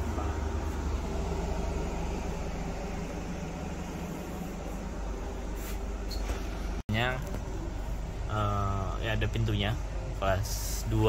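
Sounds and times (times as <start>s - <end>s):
train coach rumble and hum: 0.0s - 11.0s.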